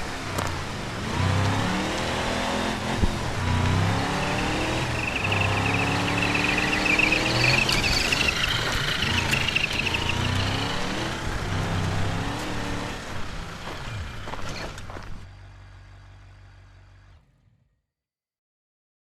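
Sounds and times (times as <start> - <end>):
truck engine revving: 0.0 - 17.1.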